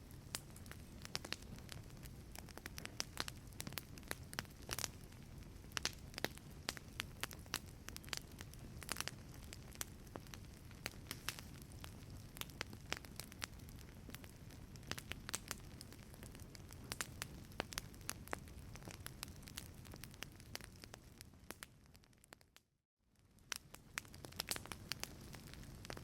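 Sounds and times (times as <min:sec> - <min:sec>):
low rumble of flames: 0:00.0 - 0:22.5, 0:23.1 - 0:26.0
wood fire crackling: 0:00.0 - 0:22.6, 0:23.2 - 0:26.0.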